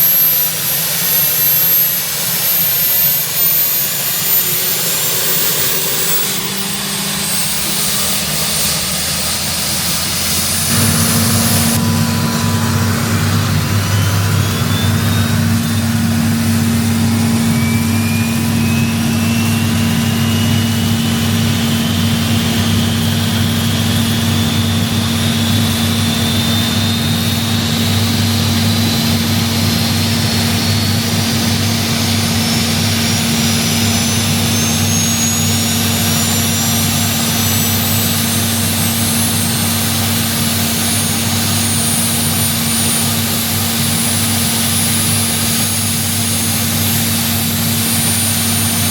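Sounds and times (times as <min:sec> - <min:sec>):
helicopter turbine whine: 0:00.0 - 0:48.9.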